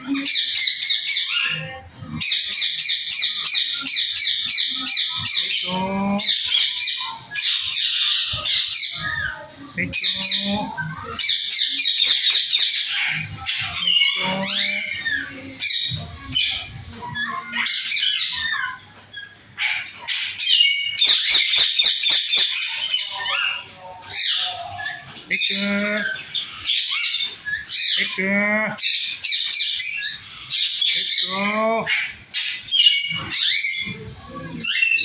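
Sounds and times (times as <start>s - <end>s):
parrots squawking and chirping: 0.0s - 35.0s.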